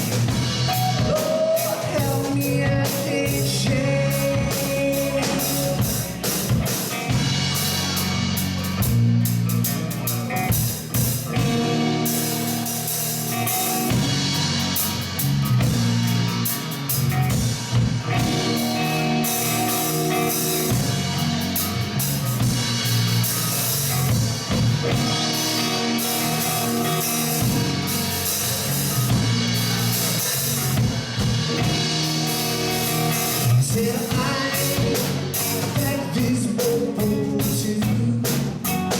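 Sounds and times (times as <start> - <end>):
bass guitar: 0.0 - 38.9
drum kit beat: 0.0 - 38.9
electric guitars: 0.0 - 38.9.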